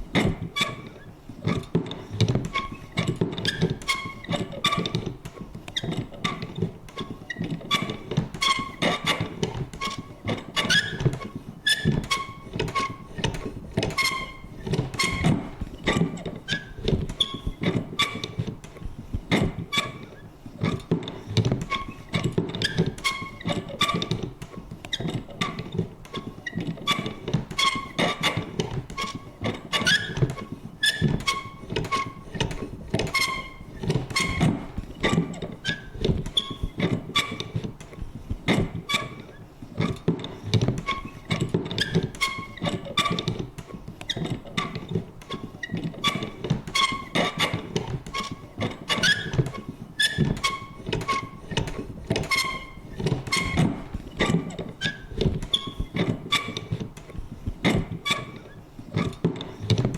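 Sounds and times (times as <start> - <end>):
paper punch clicking and thunking: 0.1 - 59.9
high creaks: 7.3 - 59.9.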